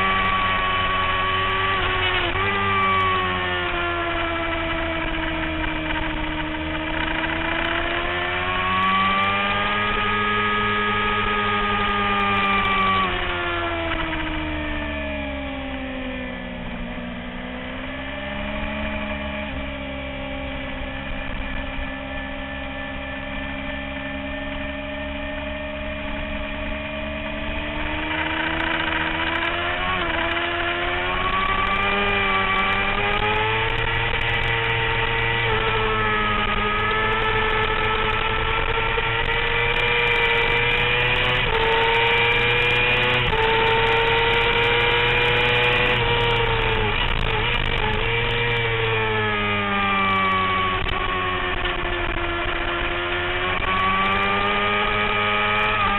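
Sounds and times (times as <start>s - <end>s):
motorcycle engine revving at speed: 0.0s - 55.9s.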